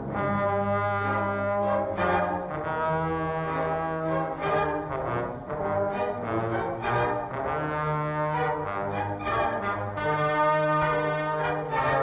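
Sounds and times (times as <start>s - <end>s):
brass band chords: 0.0s - 12.0s.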